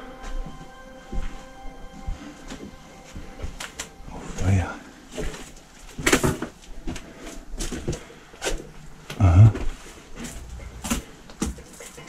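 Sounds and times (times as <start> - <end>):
footsteps on wooden floors: 0.2 - 8.7, 9.5 - 12.0.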